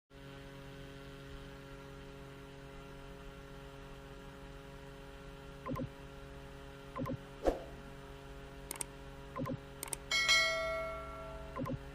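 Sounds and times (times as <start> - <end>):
electrical hum: 0.2 - 11.9.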